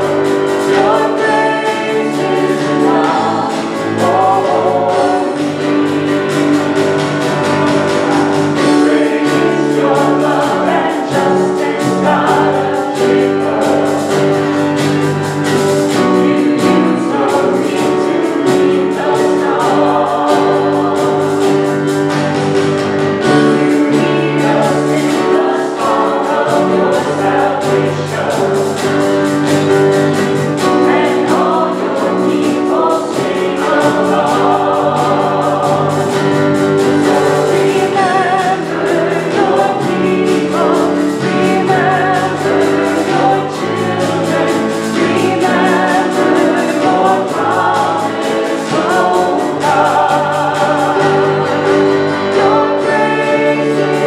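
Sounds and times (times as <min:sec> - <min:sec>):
group singing worship song: 0:00.0 - 0:54.0.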